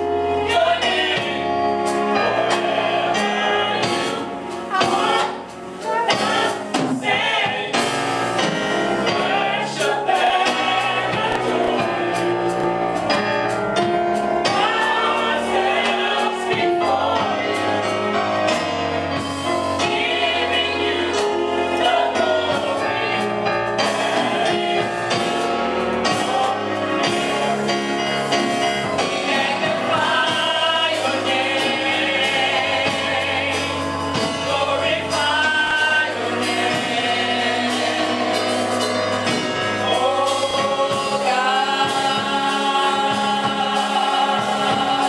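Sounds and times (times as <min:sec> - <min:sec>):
choir singing with band: 0:00.0 - 0:45.0.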